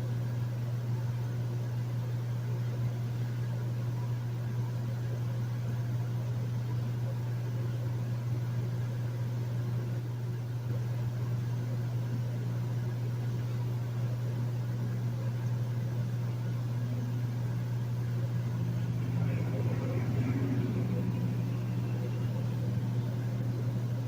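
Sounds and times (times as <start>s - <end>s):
air conditioner humming: 0.8s - 24.0s.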